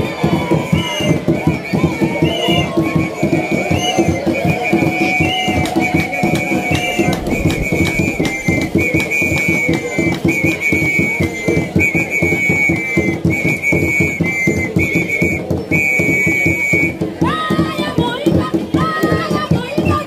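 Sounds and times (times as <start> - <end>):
fast dense drumming: 0.0 - 20.0
whistle blown in two-note phrases: 0.6 - 17.0.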